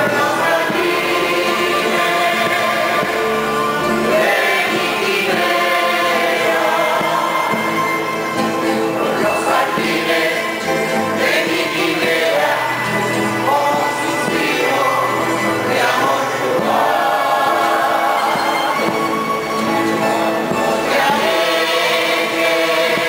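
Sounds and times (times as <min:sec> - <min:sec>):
double bass: 0:00.0 - 0:23.0
folk group singing in chorus: 0:00.0 - 0:23.0
small plucked string instruments: 0:00.0 - 0:23.0
strummed acoustic guitars: 0:00.0 - 0:23.0.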